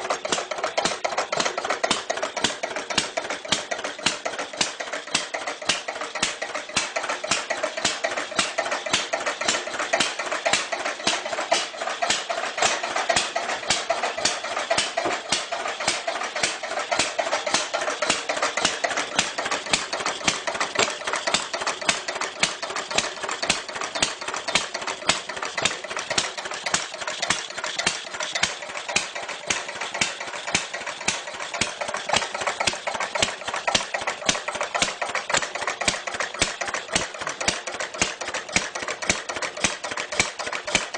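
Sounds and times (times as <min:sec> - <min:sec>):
old engine idling: 0:00.0 - 0:40.9.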